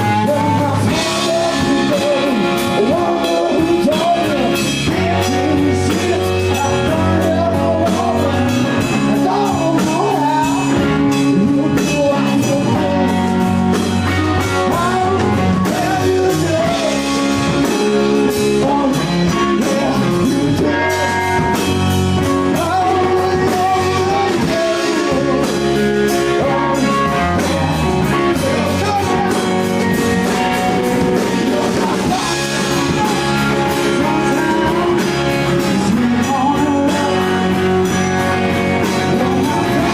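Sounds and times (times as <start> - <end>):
electric guitar: 0.0 - 39.9
person singing: 0.0 - 39.9
rock band playing: 0.0 - 39.9.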